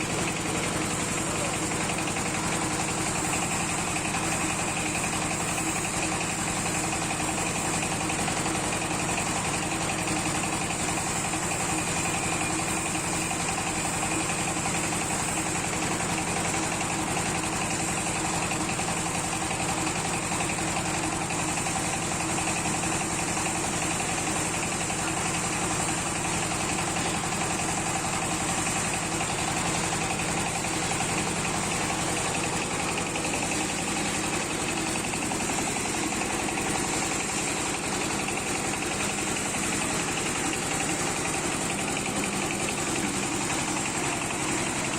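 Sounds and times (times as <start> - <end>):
oil press machine humming: 0.0 - 44.9.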